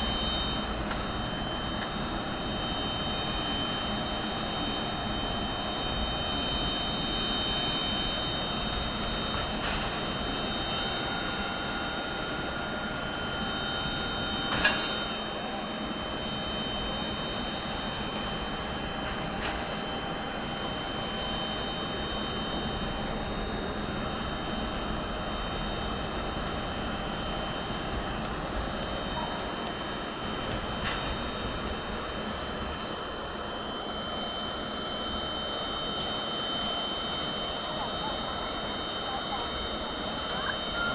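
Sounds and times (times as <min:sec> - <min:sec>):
jet turbines whining: 0:00.0 - 0:40.9.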